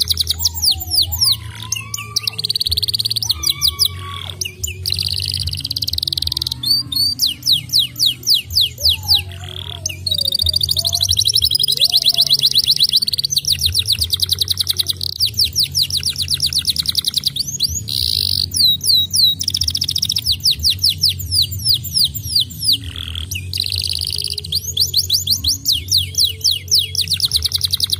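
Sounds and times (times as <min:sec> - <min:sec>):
canary singing trills: 0:00.0 - 0:27.9.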